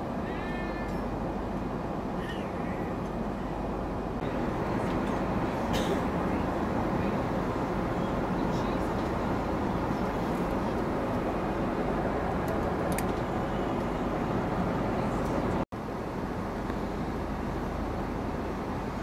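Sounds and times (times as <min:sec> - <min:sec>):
airliner cabin roar: 0:00.0 - 0:19.0.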